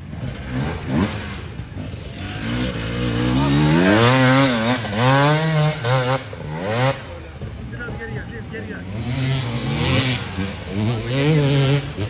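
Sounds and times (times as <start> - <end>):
motocross engine revving: 0.0 - 12.0.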